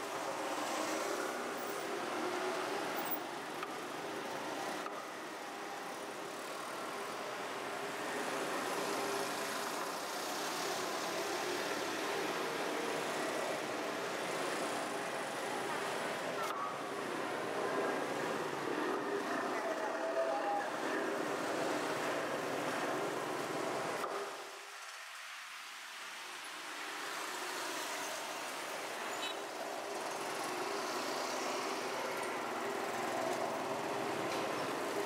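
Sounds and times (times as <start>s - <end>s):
road traffic hum: 0.0s - 35.0s.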